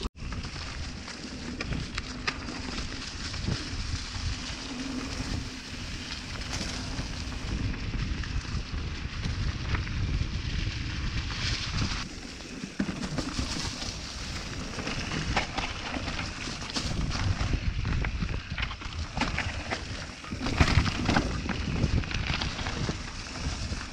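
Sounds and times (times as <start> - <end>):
tyres crunching over gravel: 0.2 - 8.6, 11.8 - 23.9
wind buffeting microphone: 0.2 - 23.9.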